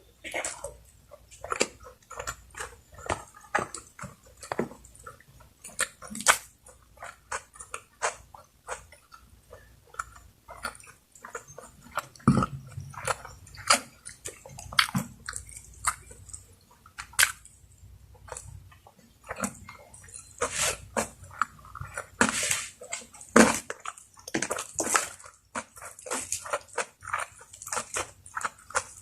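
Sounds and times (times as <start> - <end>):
chewing and mouth smacking: 0.0 - 29.0.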